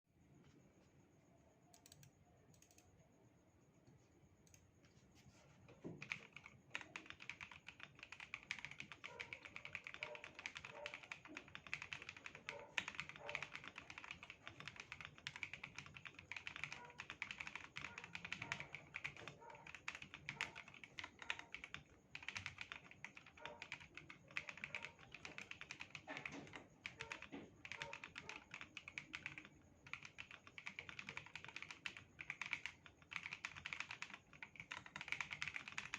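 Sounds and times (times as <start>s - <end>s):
mechanical keyboard typing: 1.7s - 2.9s, 6.0s - 35.9s.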